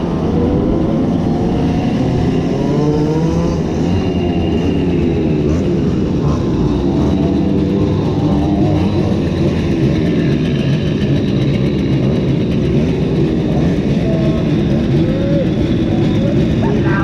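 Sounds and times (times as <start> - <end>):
moped engines running: 0.0 - 17.0.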